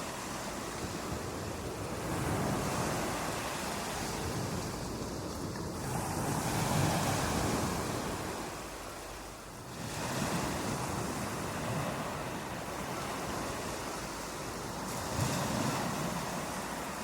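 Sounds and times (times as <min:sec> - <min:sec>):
waves breaking on beach: 0:00.0 - 0:17.0.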